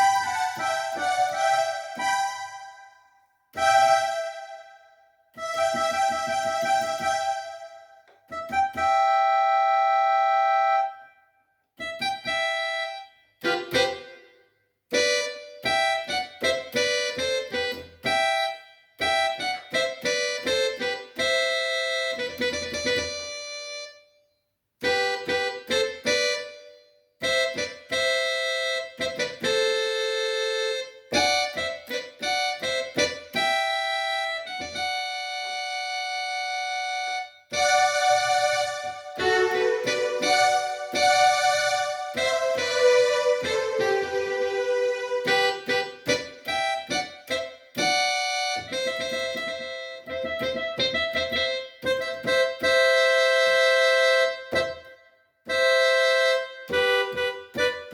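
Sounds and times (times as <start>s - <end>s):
electronic keyboard melody: 0.0s - 24.2s, 24.8s - 57.9s.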